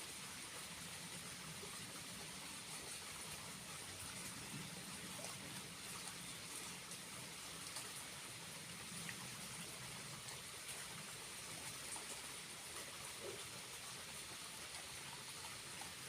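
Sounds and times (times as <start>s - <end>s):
small waterfall running: 0.0s - 16.0s.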